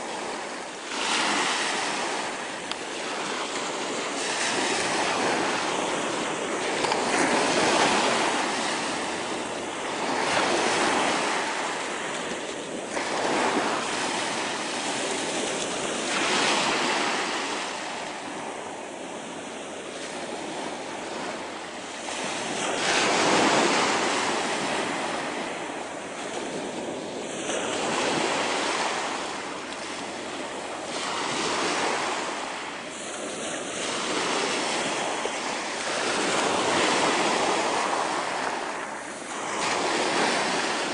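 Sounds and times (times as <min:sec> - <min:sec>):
surf breaking on shingle beach: 0:00.0 - 0:40.9.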